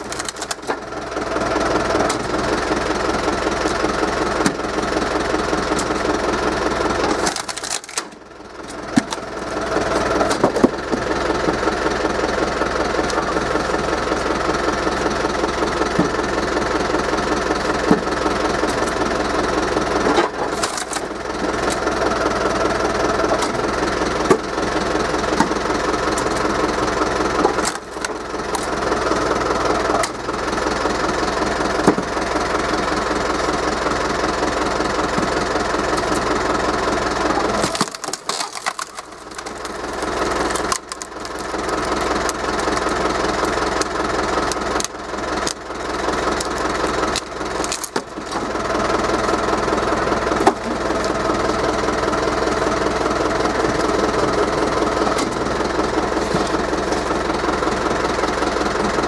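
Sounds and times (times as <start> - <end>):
wood splitting cracks: 0.0 - 12.2, 12.8 - 30.3, 31.3 - 33.8, 34.6 - 59.0
forklift engine running: 0.0 - 59.0.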